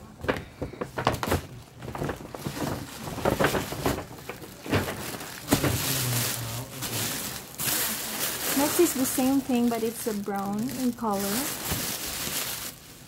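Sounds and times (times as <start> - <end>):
plastic wrapping crinkling: 0.1 - 13.0
cloth bag rustling: 1.2 - 13.0.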